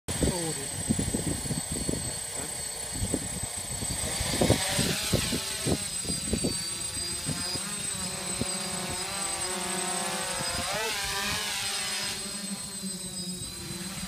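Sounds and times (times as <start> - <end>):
drone motors buzzing: 0.1 - 14.0.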